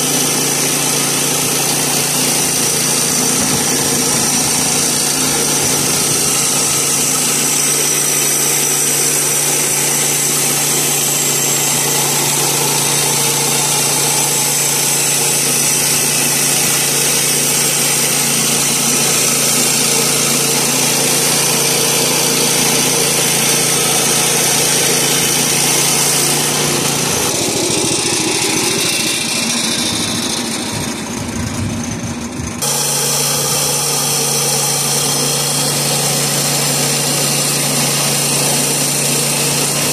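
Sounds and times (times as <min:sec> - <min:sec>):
band saw blade cutting log: 0:00.0 - 0:39.9
gas engine running: 0:00.0 - 0:39.9.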